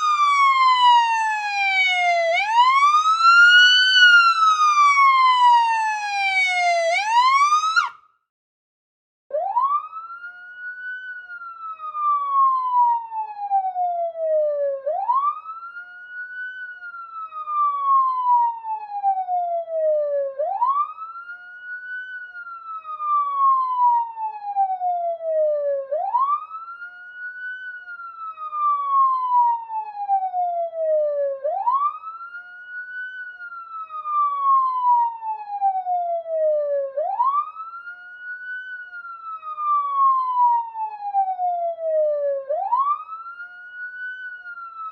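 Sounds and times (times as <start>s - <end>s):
police siren wailing: 0.0s - 8.0s, 9.3s - 44.9s.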